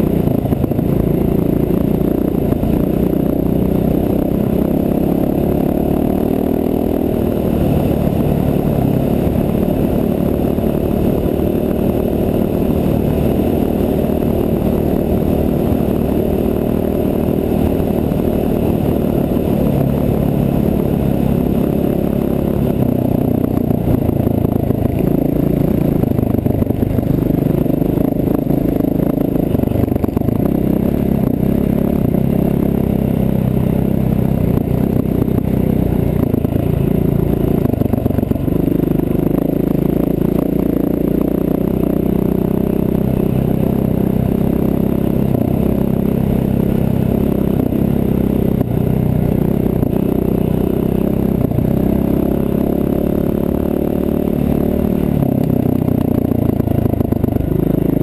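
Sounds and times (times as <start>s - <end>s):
motorcycle engine running: 0.0s - 58.0s
tyres on gravel road: 0.0s - 58.0s.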